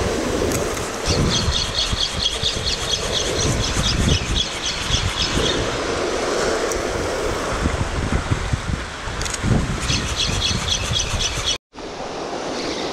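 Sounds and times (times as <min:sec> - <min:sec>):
wind on microphone: 0:00.0 - 0:12.9.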